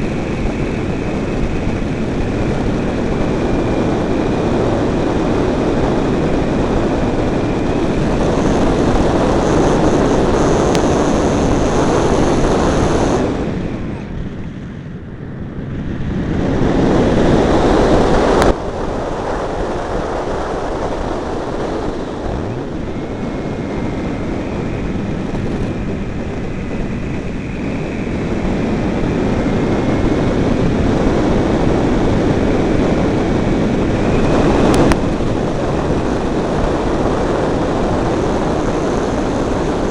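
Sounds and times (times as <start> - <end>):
model airplane motor whine: 0.0 - 14.4, 16.5 - 39.9
wind rushing over microphone: 0.0 - 39.9.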